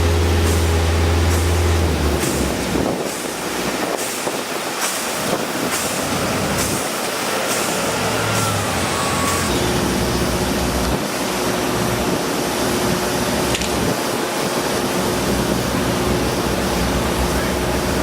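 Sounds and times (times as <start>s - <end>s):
heavy vehicle running: 0.0s - 18.0s.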